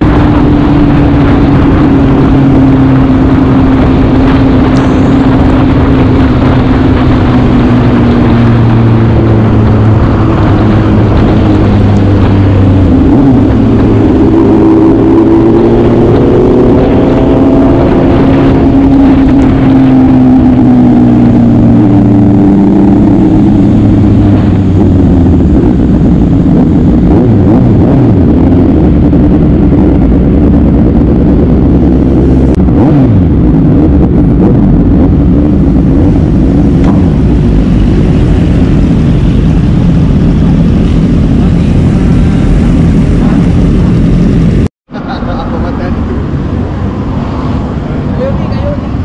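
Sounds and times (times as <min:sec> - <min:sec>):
motorcycle engine running: 0:00.0 - 0:49.0
wind noise: 0:00.0 - 0:49.0.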